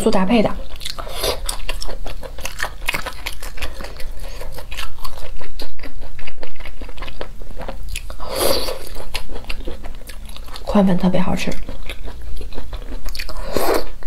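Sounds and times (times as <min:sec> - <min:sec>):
chewing and crunching: 0:00.5 - 0:14.0.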